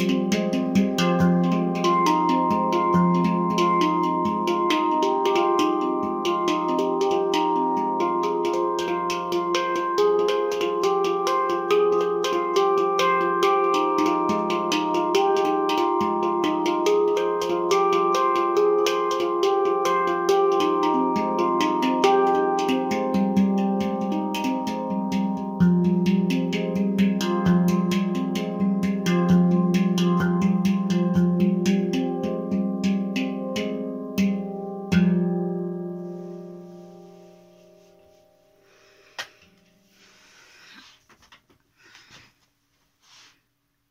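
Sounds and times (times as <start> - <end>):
handpan played with hands: 0.0 - 39.9.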